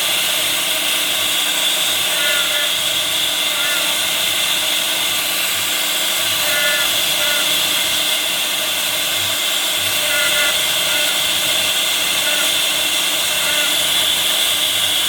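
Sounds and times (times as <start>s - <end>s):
router spindle cutting wood: 0.0s - 15.0s.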